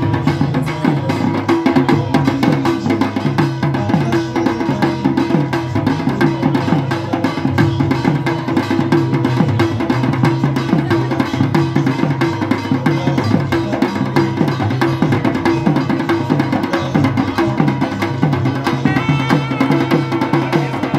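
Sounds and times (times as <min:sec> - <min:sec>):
barrel drums fast rhythm: 0:00.0 - 0:20.9.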